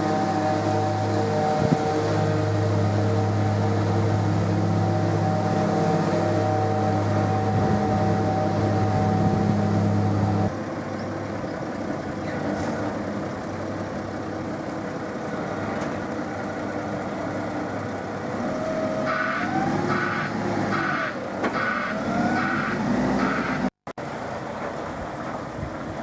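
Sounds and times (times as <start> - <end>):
forklift engine revving: 0.0 - 25.5
truck engine humming: 0.0 - 26.0.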